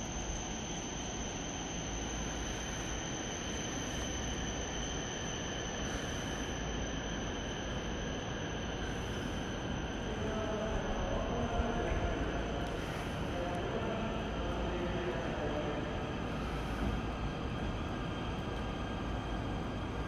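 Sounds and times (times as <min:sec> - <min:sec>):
electric train running slowly: 0:00.0 - 0:20.0.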